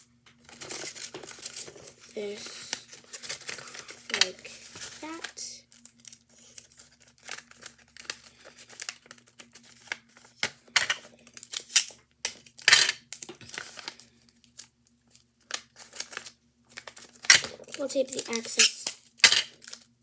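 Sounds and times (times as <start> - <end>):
paper crinkling: 0.4 - 11.8, 13.2 - 19.9.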